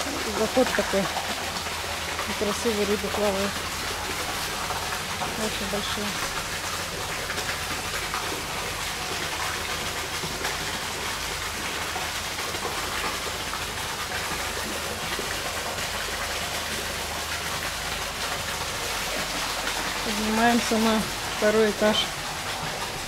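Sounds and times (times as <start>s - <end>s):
water rushing and splashing: 0.0s - 23.0s.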